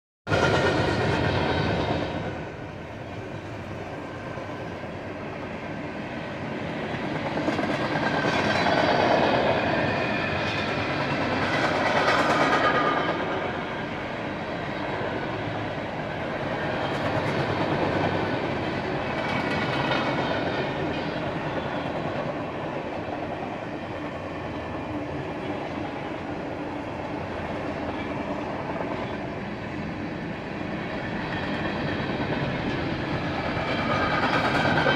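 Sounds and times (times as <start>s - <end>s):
freight train wheels on rails: 0.3s - 34.9s.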